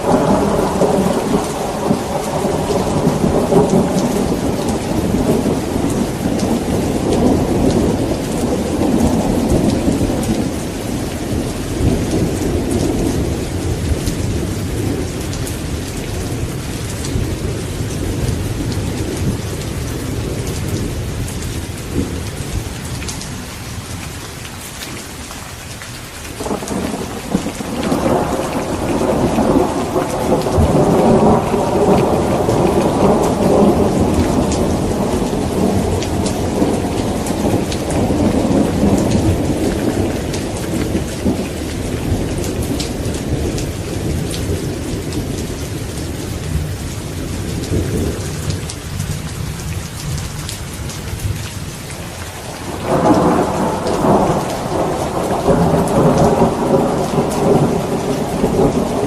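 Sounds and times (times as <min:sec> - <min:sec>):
rolling thunder: 0:00.0 - 0:22.7, 0:26.4 - 0:59.0
steady rain falling: 0:00.0 - 0:59.0.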